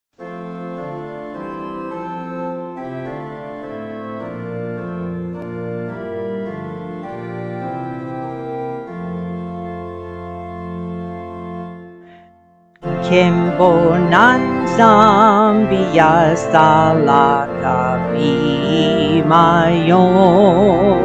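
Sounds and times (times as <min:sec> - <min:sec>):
organ playing a hymn: 0:00.2 - 0:21.0.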